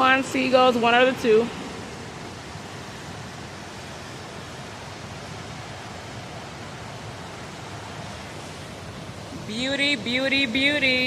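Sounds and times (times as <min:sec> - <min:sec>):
steady outdoor rushing noise: 0:00.0 - 0:11.0.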